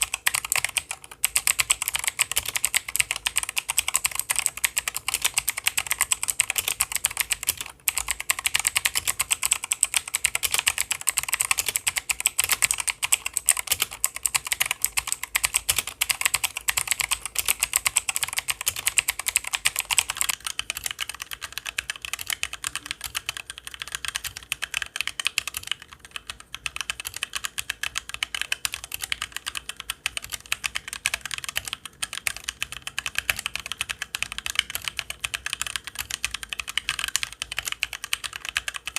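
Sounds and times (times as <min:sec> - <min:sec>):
mechanical keyboard key clicks: 0:00.0 - 0:38.9.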